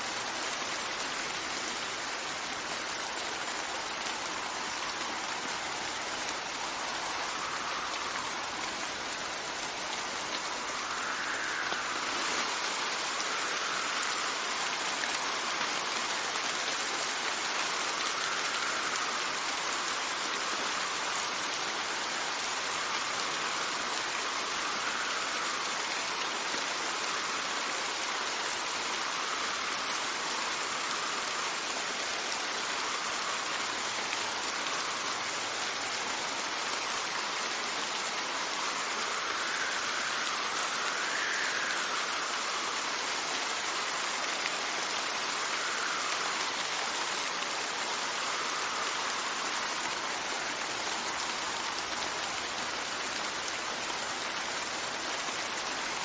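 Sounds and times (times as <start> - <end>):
steady rain: 0.0 - 56.0
wind gusts: 0.0 - 56.0.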